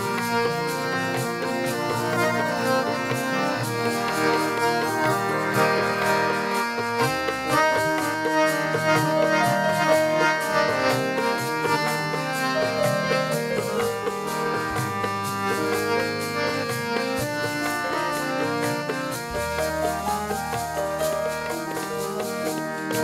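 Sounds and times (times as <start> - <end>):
hand drums steady beat: 0.0 - 23.0
harmonium melody: 0.0 - 23.0.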